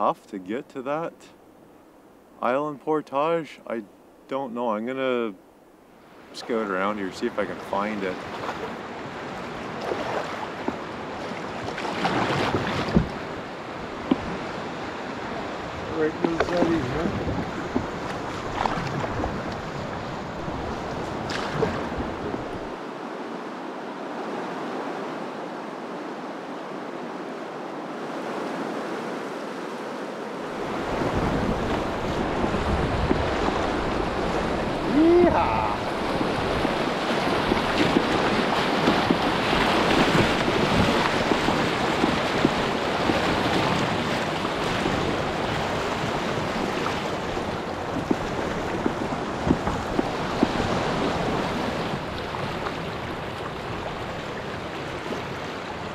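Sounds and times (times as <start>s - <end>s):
moving water: 0.0s - 55.9s
wind rumbling on microphone: 8.1s - 55.9s.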